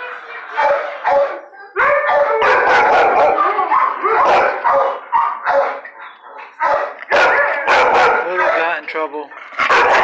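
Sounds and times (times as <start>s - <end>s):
dogs barking and yipping: 0.3s - 10.0s.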